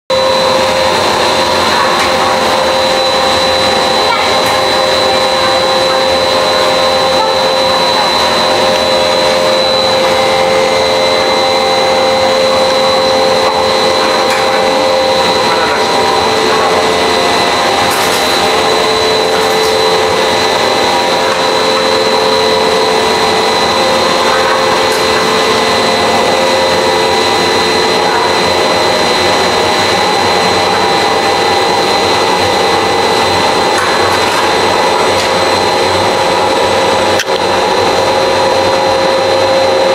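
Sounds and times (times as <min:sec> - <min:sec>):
high whines from drive: 0:00.1 - 0:39.9
pellet mill running: 0:00.1 - 0:39.9.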